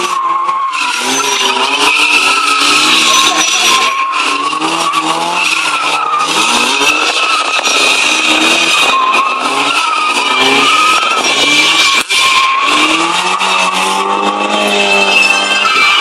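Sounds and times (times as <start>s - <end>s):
engines revving: 0.0s - 16.0s
tyres skidding and squealing: 0.0s - 16.0s.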